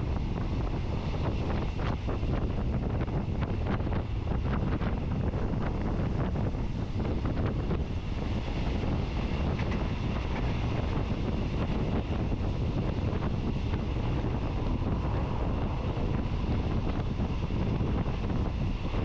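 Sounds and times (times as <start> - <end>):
train running rumble: 0.0 - 19.0
wind buffeting microphone: 0.0 - 19.0.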